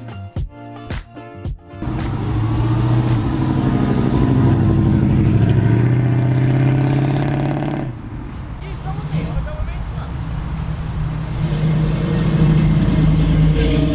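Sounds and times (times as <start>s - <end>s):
car engine rumbling: 1.8s - 13.9s.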